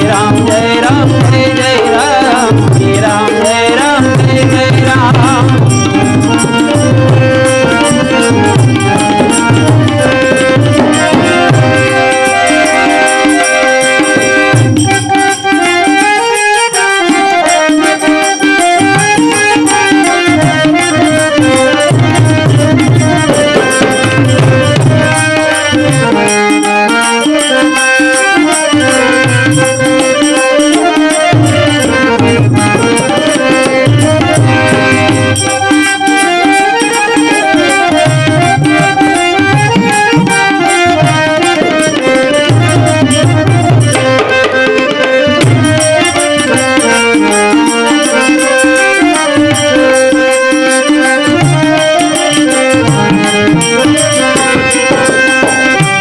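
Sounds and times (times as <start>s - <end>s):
hand drum beat: 0.0s - 16.1s, 17.1s - 56.0s
harmonium melody: 0.0s - 56.0s.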